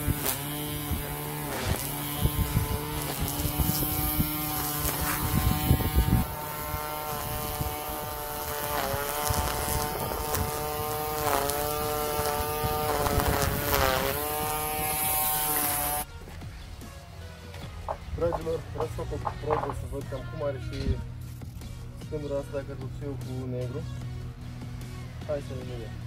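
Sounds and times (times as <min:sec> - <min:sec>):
electric string trimmer whining: 0:00.0 - 0:16.1, 0:17.8 - 0:26.0.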